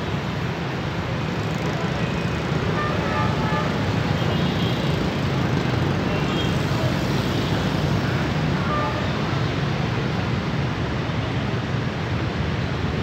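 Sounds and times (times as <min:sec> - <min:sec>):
city road traffic rumble: 0:00.0 - 0:13.0.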